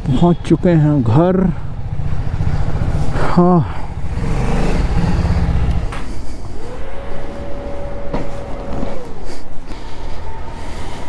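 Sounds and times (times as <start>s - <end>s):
motorcycle engine running: 0.8s - 11.0s.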